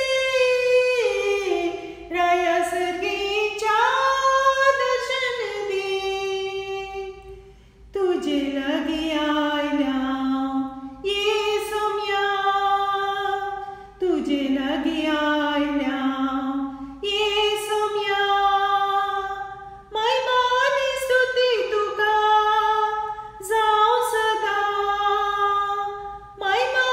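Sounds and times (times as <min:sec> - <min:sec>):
woman singing unaccompanied: 0:00.0 - 0:26.9.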